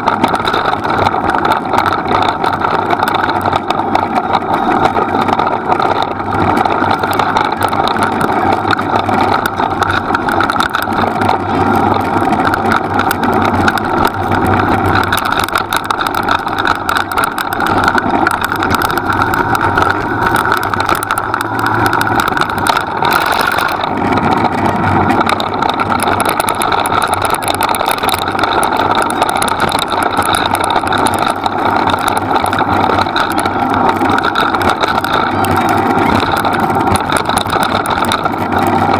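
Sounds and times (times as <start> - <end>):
wheels rolling on dirt track: 0.0 - 38.9.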